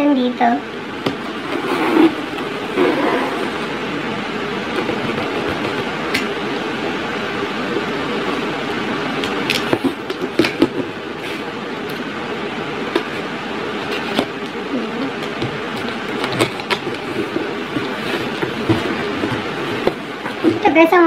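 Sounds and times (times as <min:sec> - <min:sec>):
steady fan-like hiss: 0:00.0 - 0:21.0.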